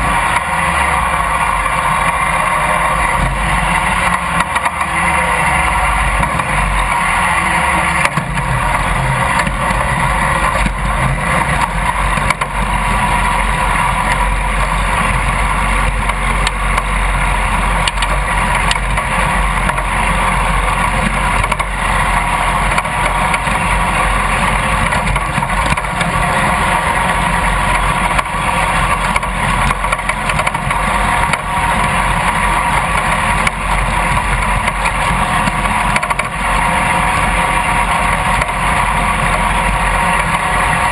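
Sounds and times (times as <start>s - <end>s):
riding mower engine running: 0.0s - 40.9s.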